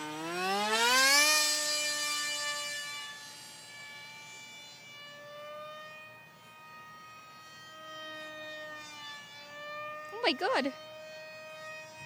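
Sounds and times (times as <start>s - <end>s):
model airplane motor whining: 0.0s - 12.0s.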